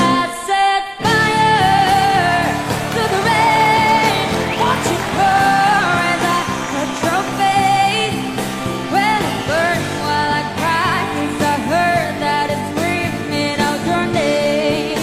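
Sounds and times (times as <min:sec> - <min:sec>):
instrumental backing: 0:01.0 - 0:15.0.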